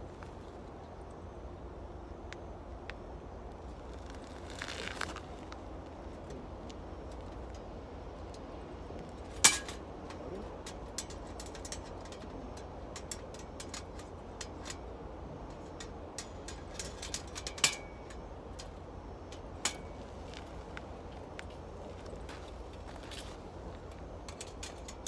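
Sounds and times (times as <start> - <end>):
wood fire crackling: 2.8 - 25.0.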